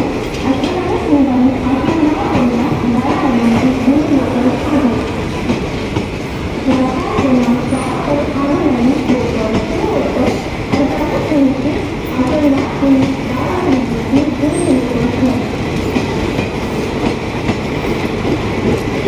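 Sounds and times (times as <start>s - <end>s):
train coaches rolling past: 0.0s - 19.0s.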